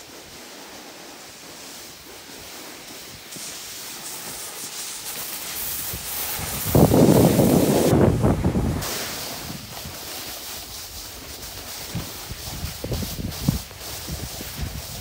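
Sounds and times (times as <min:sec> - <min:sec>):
snowboard sliding over snow: 0:00.0 - 0:15.0.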